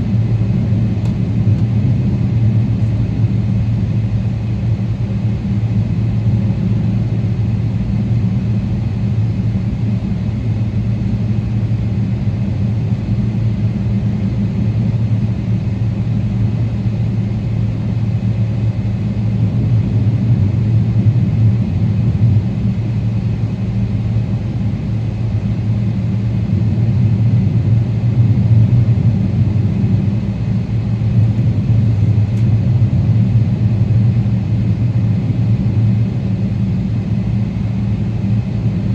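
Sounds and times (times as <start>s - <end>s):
airplane engines humming in cabin: 0.0s - 38.9s.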